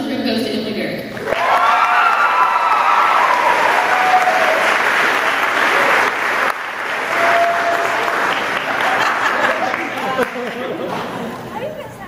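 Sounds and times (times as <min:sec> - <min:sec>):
audience applauding: 0:01.2 - 0:11.2.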